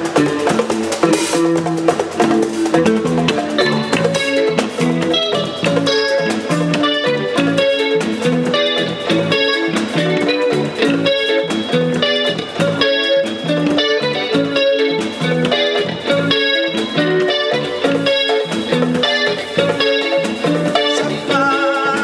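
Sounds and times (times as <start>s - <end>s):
guitar band music: 0.0s - 22.0s.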